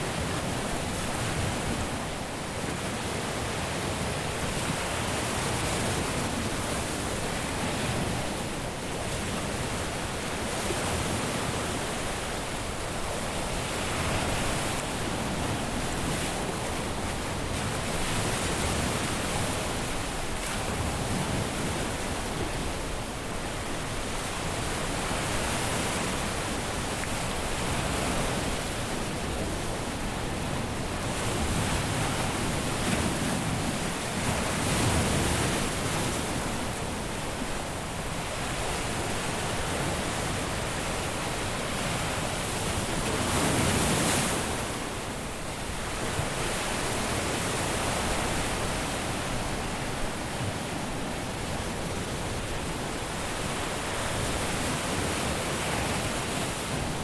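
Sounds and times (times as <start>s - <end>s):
surf waves breaking on beach: 0.0s - 57.0s.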